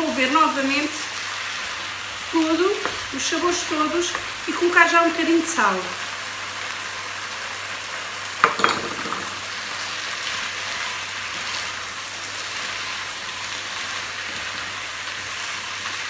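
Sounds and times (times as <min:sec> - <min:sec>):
food sizzling in a pot: 0:00.0 - 0:16.0.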